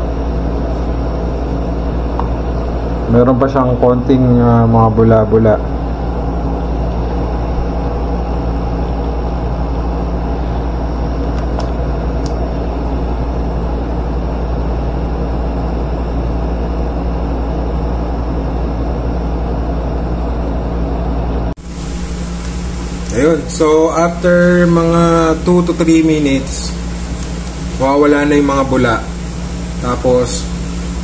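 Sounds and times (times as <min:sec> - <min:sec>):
machine hum: 0:00.0 - 0:31.0.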